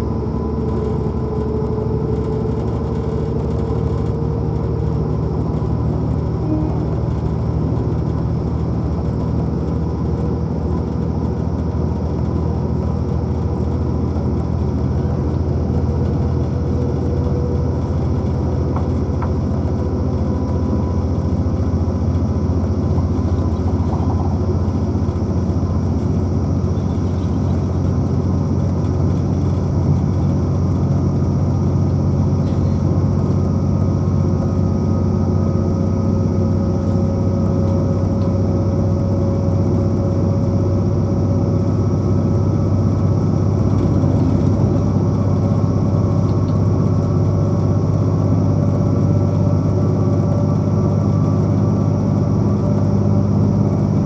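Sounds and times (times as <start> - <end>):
faint rising whine: 0.0 - 54.0
train diesel engine drone: 0.0 - 54.0.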